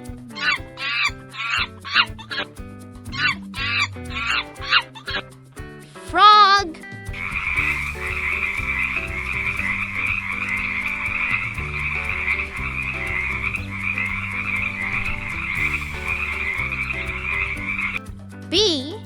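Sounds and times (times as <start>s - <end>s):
soft background music: 0.1s - 19.0s.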